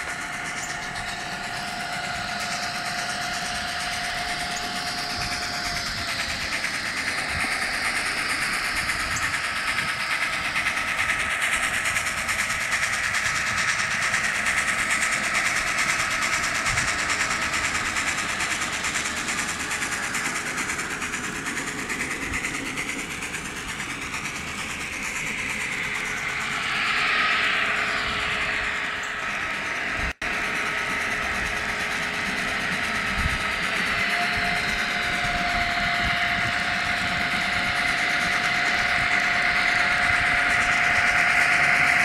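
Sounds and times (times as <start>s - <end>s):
model train wheels rattling on rails: 0.0s - 42.0s
small electric motor whining: 0.0s - 42.0s.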